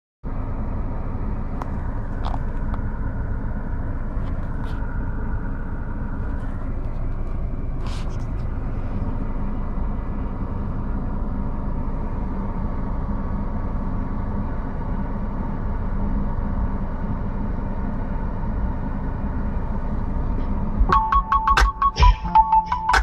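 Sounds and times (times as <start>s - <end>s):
road and engine noise in car: 0.2s - 23.0s.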